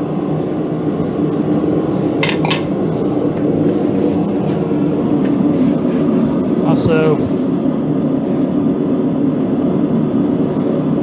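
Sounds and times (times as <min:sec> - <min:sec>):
forge shop rumble: 0:00.0 - 0:09.2.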